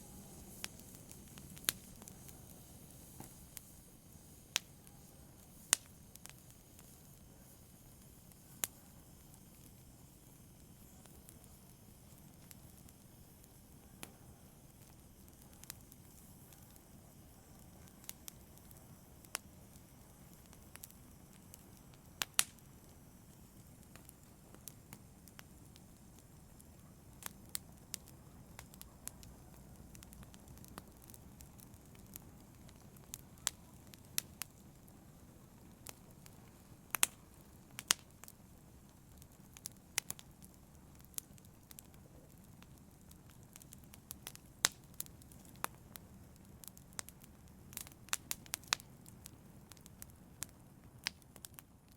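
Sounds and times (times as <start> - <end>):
fire crackles and pops: 0.0 - 51.9
low rumble of flame: 0.0 - 51.9.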